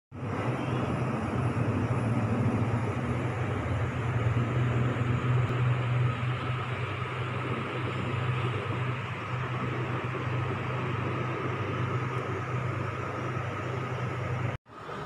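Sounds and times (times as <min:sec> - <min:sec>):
constant whooshing: 0:00.2 - 0:15.0
low mechanical hum: 0:00.2 - 0:15.0.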